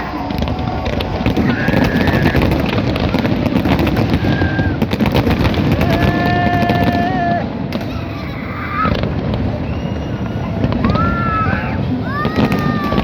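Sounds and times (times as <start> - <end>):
fireworks crackling bangs: 0.0 - 13.0.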